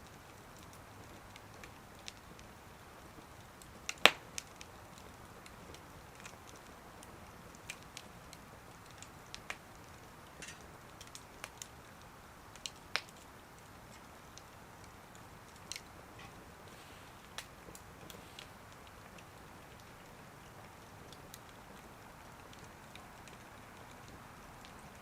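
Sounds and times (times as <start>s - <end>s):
faint steady hiss: 0.0s - 25.0s
wood fire crackling: 0.0s - 25.0s.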